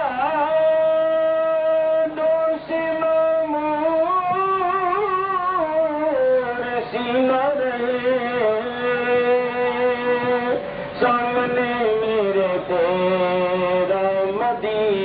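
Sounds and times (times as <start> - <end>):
person singing long held notes: 0.0 - 15.0.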